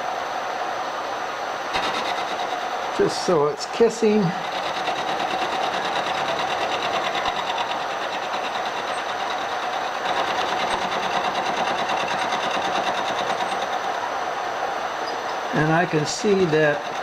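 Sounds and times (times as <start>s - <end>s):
milling machine cutting metal: 1.7s - 17.0s.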